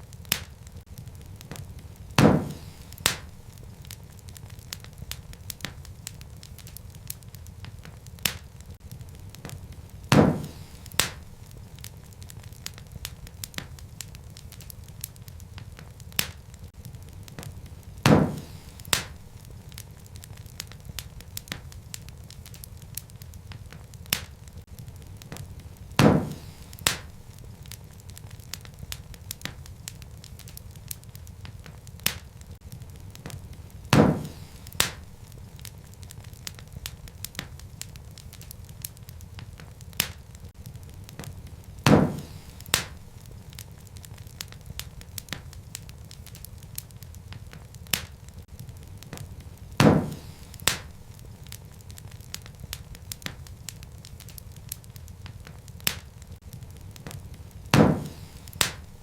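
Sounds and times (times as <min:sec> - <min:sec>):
loud fire pops: 0:00.0 - 0:59.0
wood fire crackling: 0:00.0 - 0:59.0.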